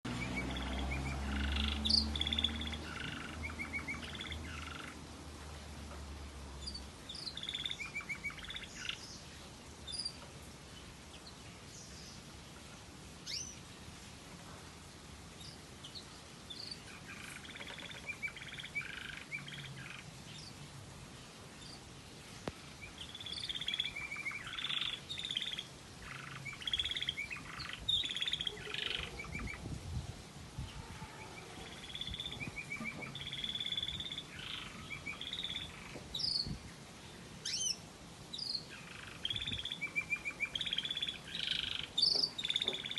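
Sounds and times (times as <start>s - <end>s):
canary singing trills and chirps: 0.0s - 5.2s, 5.9s - 10.2s, 13.2s - 13.6s, 15.4s - 20.6s, 21.6s - 29.7s, 30.6s - 42.9s.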